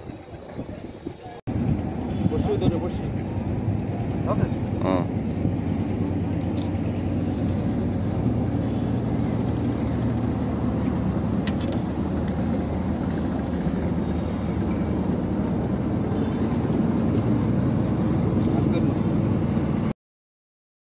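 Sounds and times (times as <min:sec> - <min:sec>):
engine droning: 0:01.5 - 0:19.9.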